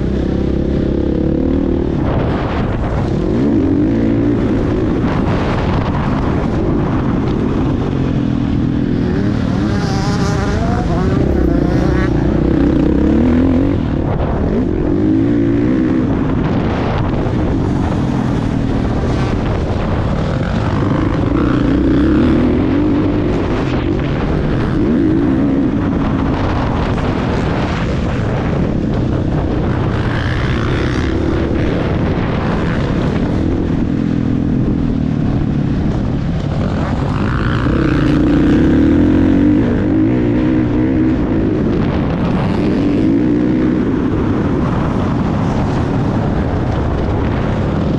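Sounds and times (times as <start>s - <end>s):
motocross bike engine revving: 0.0s - 46.3s.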